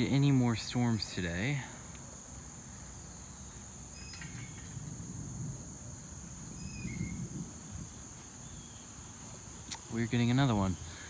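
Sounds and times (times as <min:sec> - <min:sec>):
crickets chorus: 0:00.0 - 0:11.0.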